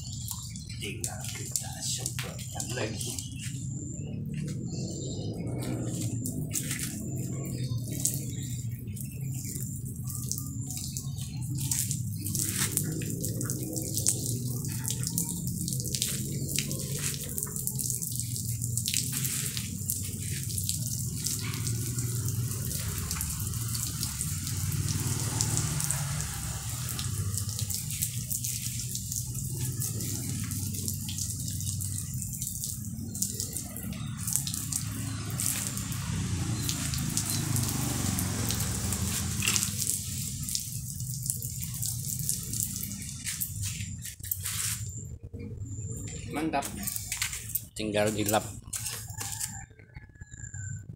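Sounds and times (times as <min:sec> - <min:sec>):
hose spraying water: 0:00.0 - 0:44.9, 0:46.4 - 0:49.6
water splashing and dripping: 0:00.0 - 0:50.0.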